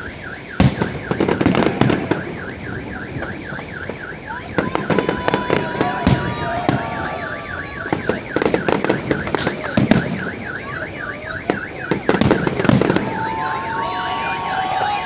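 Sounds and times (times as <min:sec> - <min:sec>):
fireworks bangs: 0:00.0 - 0:15.0
warbling alarm siren: 0:00.0 - 0:15.0.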